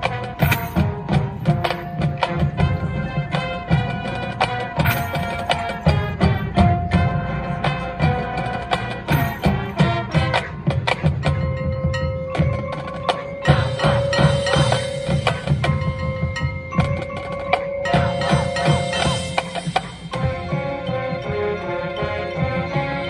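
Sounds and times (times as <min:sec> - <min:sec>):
mallet keyboards: 0:00.0 - 0:23.0
marching band playing: 0:00.0 - 0:23.0
sharp percussion strikes: 0:00.0 - 0:23.0.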